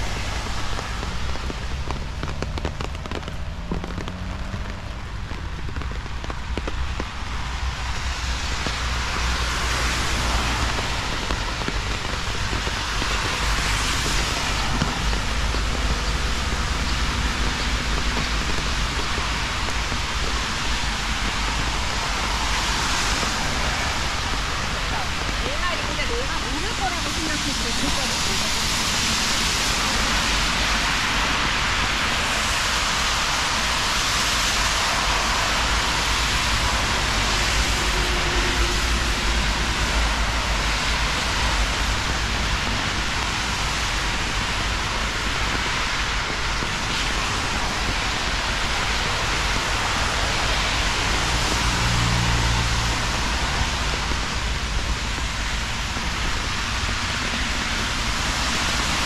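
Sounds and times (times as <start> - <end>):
low rumble: 0.0 - 59.0
rain falling: 0.0 - 59.0.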